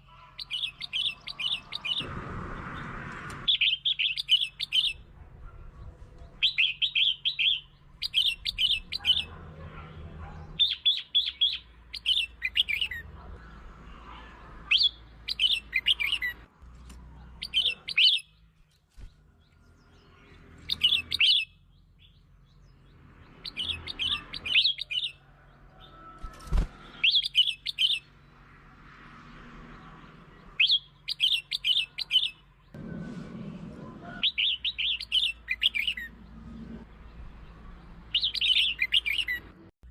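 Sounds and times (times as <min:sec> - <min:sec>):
bird chirpy song: 0:00.0 - 0:28.5, 0:29.6 - 0:33.0, 0:34.2 - 0:39.9.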